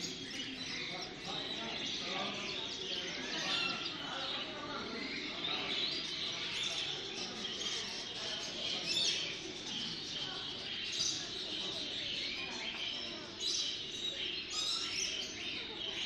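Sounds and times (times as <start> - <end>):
caged birds chirping: 0.0 - 16.0
faint murmur of voices: 0.0 - 16.0.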